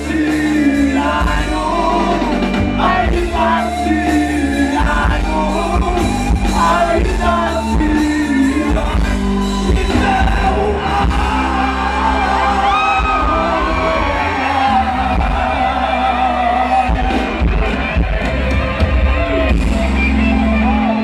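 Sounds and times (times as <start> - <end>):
person singing and yelling: 0.0 - 17.2
live rock band: 0.0 - 21.0.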